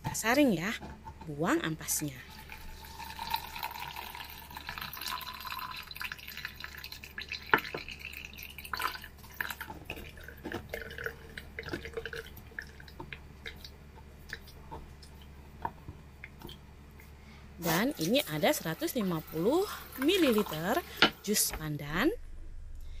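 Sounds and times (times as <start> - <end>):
juice dripping through strainer: 2.2 - 21.0.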